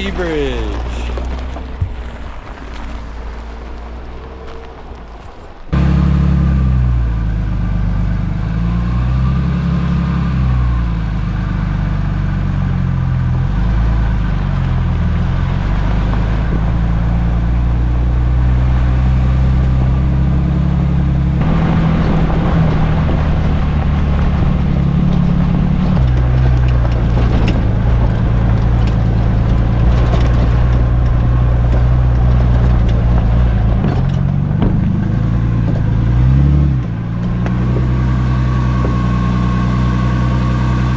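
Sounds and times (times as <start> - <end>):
off-road vehicle engine revving: 0.0 - 40.9
rough noisy rumble: 0.0 - 40.9.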